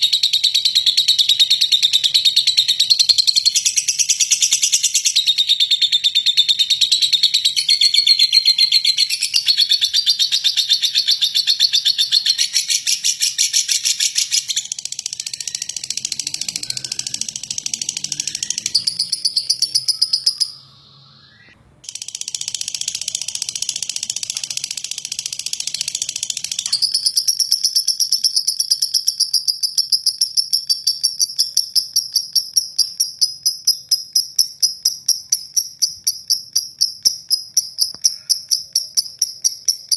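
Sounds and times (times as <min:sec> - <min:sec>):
lovebird rapid chirping chatter: 0:00.0 - 0:39.9.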